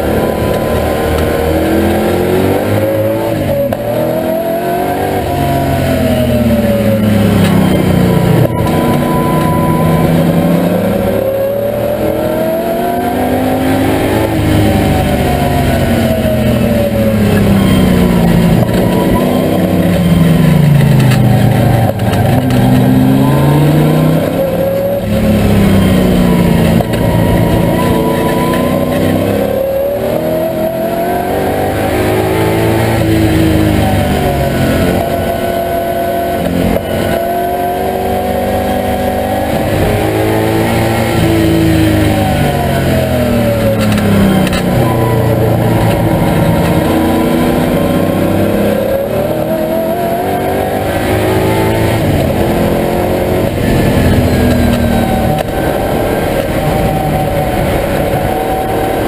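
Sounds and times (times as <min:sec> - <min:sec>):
car engine at racing speed: 0:00.0 - 0:59.0.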